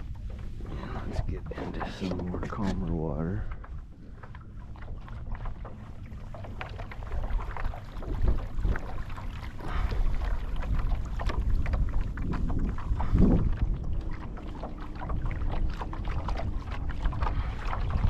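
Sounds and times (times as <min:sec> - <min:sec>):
water splashing against kayak hull: 0:00.0 - 0:18.0
wind rumble on microphone: 0:00.0 - 0:18.0.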